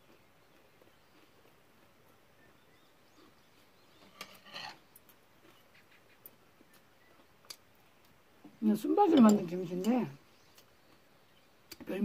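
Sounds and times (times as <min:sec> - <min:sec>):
chewing food: 0:00.0 - 0:08.6, 0:09.2 - 0:11.8.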